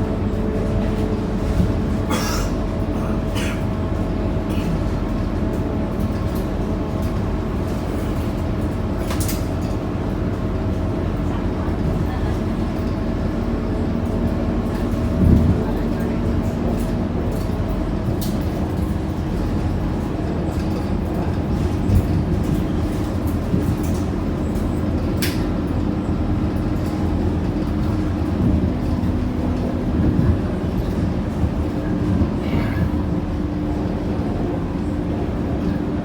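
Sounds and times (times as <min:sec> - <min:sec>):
bus diesel engine rumble: 0:00.0 - 0:36.0.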